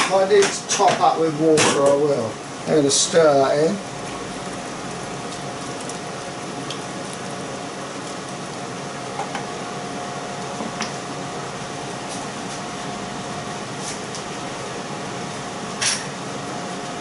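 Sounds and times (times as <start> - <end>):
steady hiss and hum: 0.0 - 17.0.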